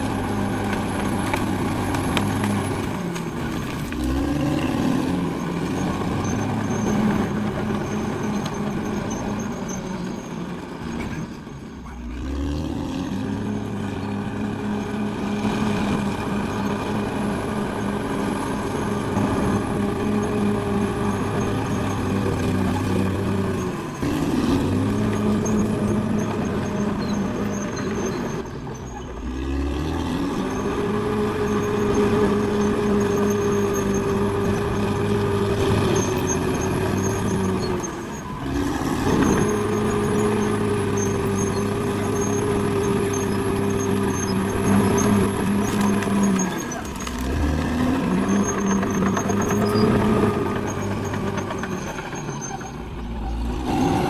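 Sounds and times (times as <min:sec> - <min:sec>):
bulldozer diesel engine revving: 0:00.0 - 0:54.0.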